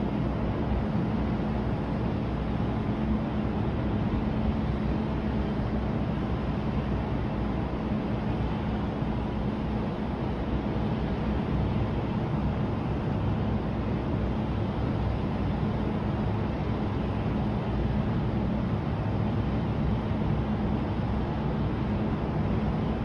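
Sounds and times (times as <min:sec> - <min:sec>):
faint steady hum: 0:00.0 - 0:23.0
low city rumble: 0:00.0 - 0:23.0.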